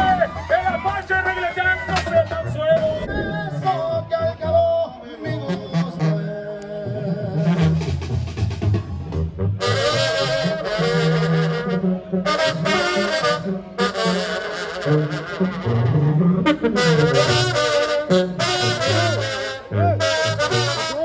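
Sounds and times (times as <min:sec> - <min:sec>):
brass band music: 0:00.0 - 0:21.0.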